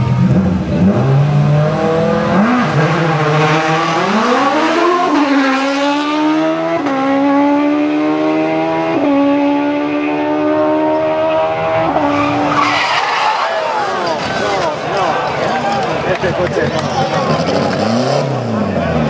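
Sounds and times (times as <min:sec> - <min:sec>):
rally car engine accelerating: 0:00.0 - 0:14.9, 0:16.6 - 0:19.0.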